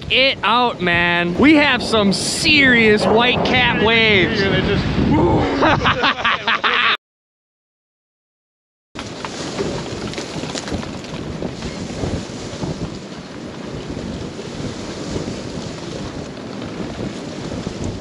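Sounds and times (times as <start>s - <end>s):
choppy water splashing: 0.0s - 5.9s, 9.0s - 18.0s
wind buffeting microphone: 0.0s - 6.5s, 9.0s - 18.0s.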